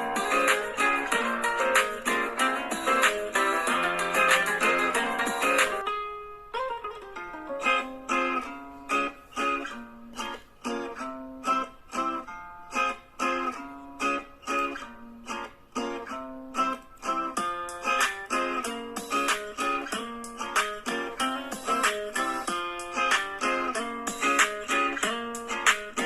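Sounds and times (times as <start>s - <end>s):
plucked guitar tune: 0.0s - 26.0s.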